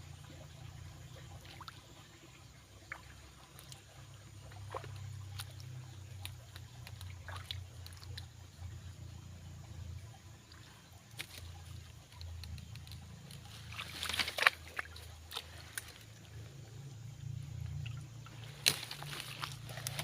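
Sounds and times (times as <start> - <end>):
low steady hum: 0.0 - 20.0
stream water trickling: 0.0 - 20.0
water splashes: 0.0 - 20.0.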